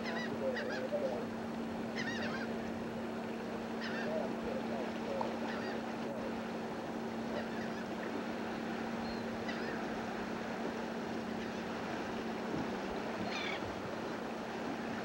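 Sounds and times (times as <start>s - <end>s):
birds calling: 0.0s - 12.4s, 13.0s - 14.3s.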